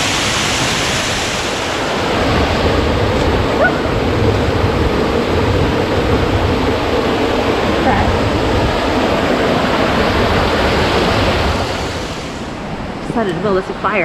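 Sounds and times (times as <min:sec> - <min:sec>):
waterfall rushing: 0:00.0 - 0:13.0
wind rumble on microphone: 0:00.0 - 0:14.0.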